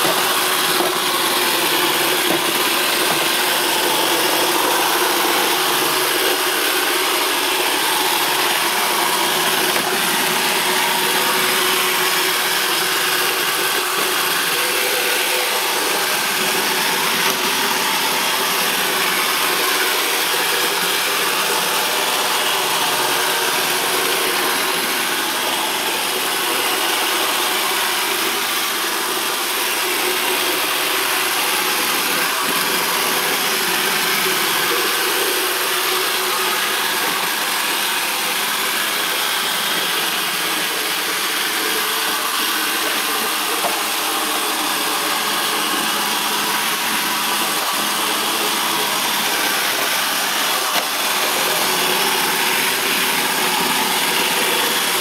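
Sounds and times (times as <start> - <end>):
robot sweeper whirring: 0.0 - 55.0.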